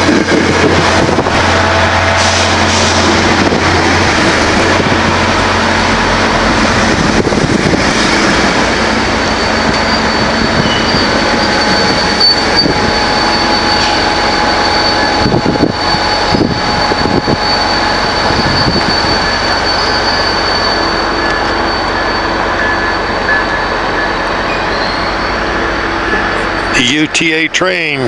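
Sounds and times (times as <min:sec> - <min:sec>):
high-pitched whine: 0:00.0 - 0:28.0
train rail noise: 0:00.0 - 0:28.0.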